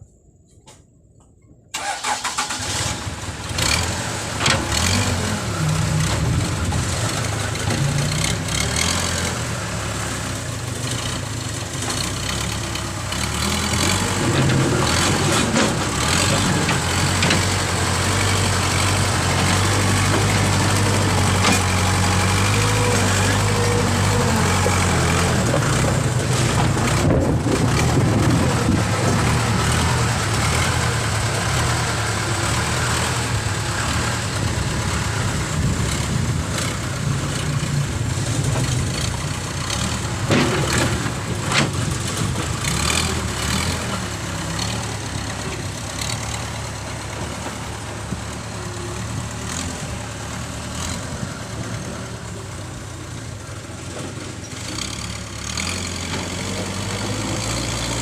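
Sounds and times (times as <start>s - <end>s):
heavy machinery engine running: 1.7s - 58.0s.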